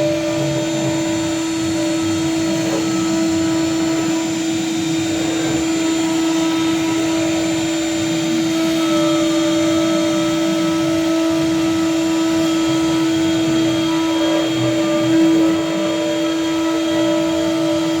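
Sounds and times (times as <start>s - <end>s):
lathe whining over motor hum: 0.0s - 18.0s.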